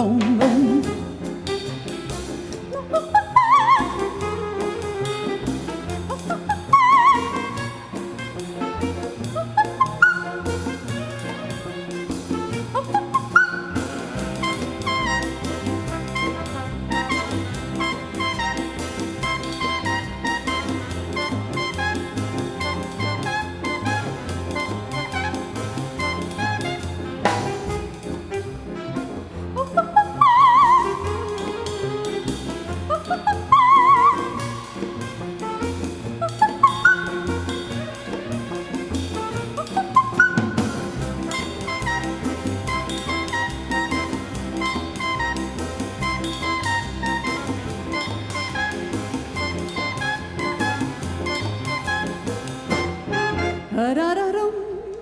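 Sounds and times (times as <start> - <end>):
drums keeping a beat: 0.0 - 29.4, 30.8 - 53.6
bass line: 0.0 - 53.9
latin dance band with brass: 0.0 - 54.1.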